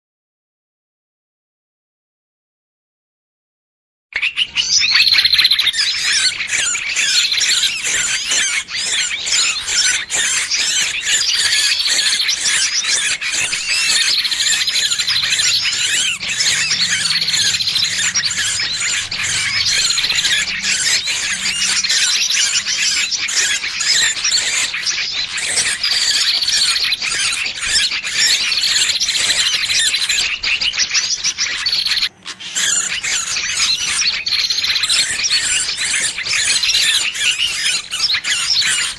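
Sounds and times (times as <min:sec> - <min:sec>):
small bird distress squeals: 0:04.2 - 0:38.9.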